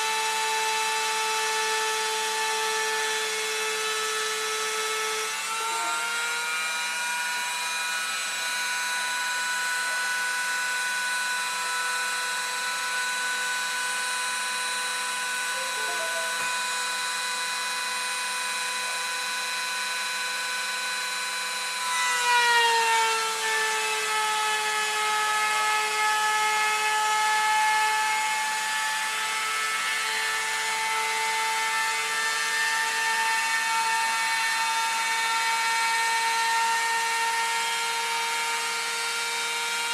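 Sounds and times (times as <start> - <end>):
router bit whining cutting wood: 0.0 - 39.9.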